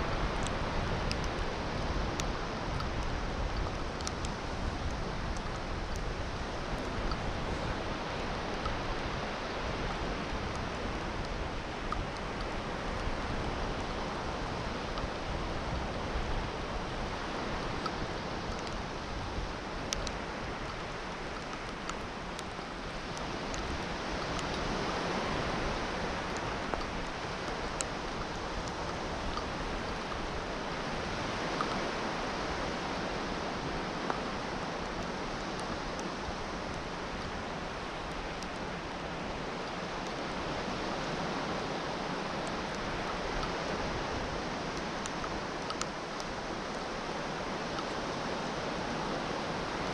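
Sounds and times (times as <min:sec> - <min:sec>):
faint ticks: 0:00.0 - 0:49.9
surf on a sandy beach: 0:00.0 - 0:49.9.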